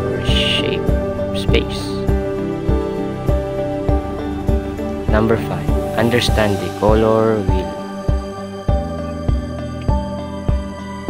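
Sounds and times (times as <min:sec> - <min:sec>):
sustained mellow notes: 0:00.0 - 0:11.0.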